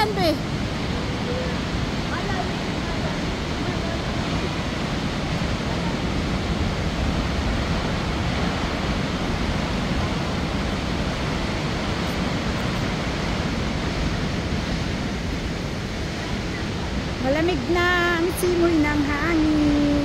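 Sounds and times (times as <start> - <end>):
waterfall rushing: 0.0 - 20.0
wind on microphone: 0.0 - 20.0.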